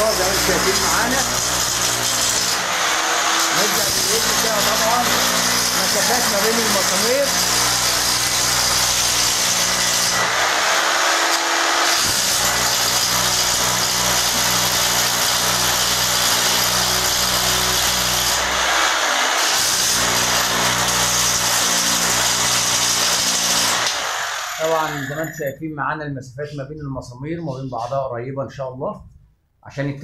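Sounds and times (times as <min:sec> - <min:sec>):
electric drill boring through metal: 0:00.0 - 0:25.5.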